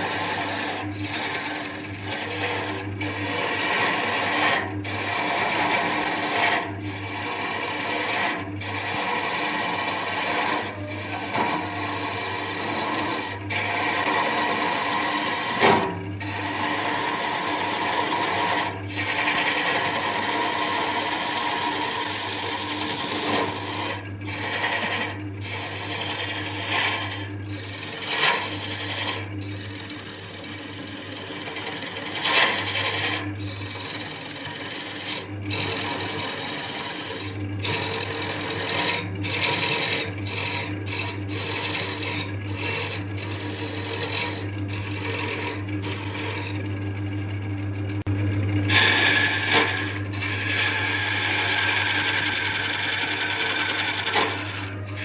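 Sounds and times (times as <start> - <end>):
tool scraping spinning wood: 0.0 - 46.9, 48.0 - 55.0
wood lathe humming: 0.0 - 47.0, 48.0 - 55.0.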